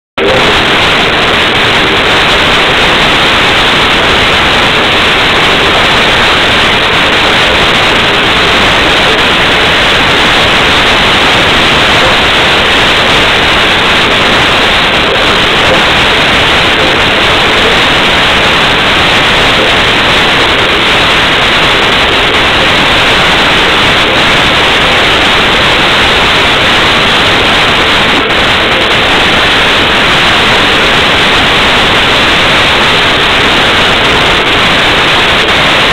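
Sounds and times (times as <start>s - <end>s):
static-like hiss: 0.2s - 35.9s.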